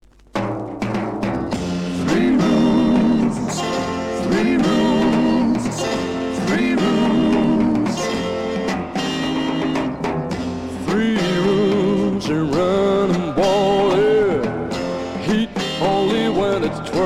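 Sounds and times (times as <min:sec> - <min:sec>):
pop band music: 0:00.9 - 0:17.0.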